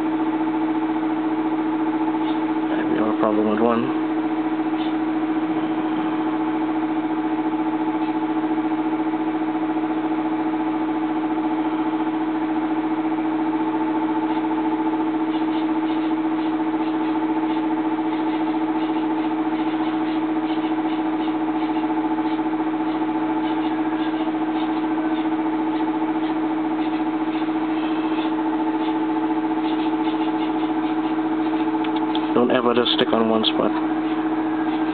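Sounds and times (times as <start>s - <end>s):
hot-air rework station blowing: 0.0s - 34.9s.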